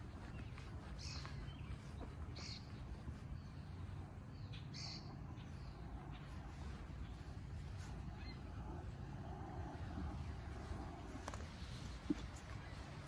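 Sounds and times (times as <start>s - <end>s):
bird chirping: 0.0s - 13.0s
low steady rumble: 0.0s - 13.0s.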